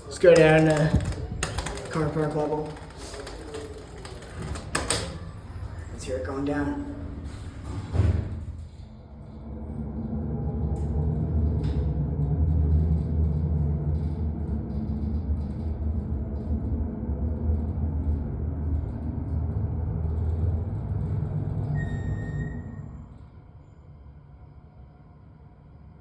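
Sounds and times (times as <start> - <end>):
elevator rumble and hum: 0.0 - 26.0.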